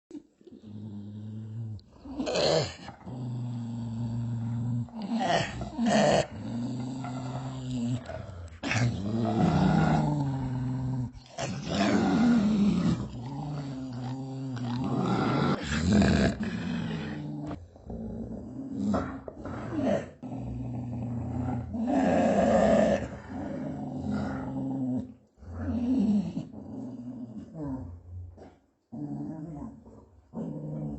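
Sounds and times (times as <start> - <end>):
dog growling: 0.5 - 30.9.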